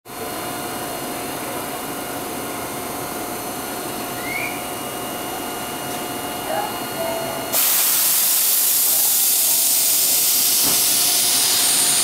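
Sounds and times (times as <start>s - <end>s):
train equipment hiss and hum: 0.1s - 12.0s.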